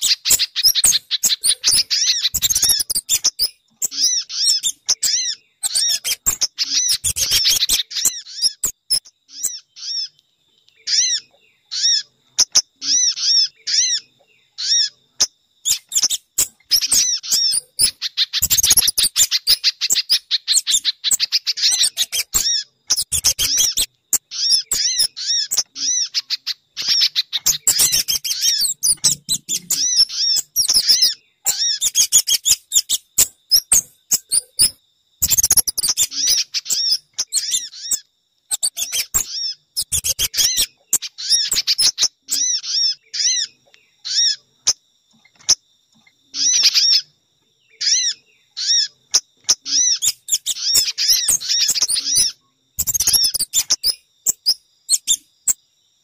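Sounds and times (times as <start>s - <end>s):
bird chirps and trills: 0.0s - 55.6s.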